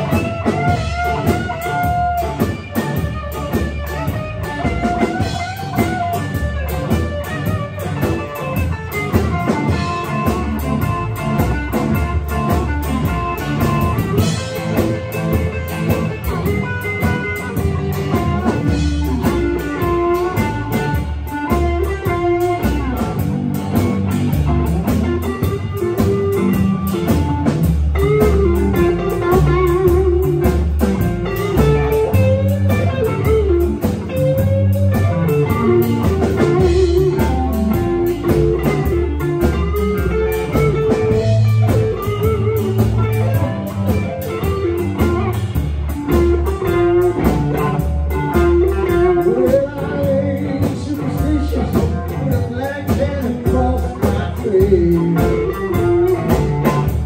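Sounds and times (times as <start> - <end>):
bass guitar: 0.0 - 57.0
drum kit with cymbal beat: 0.0 - 57.0
electric guitar lead: 0.0 - 57.0.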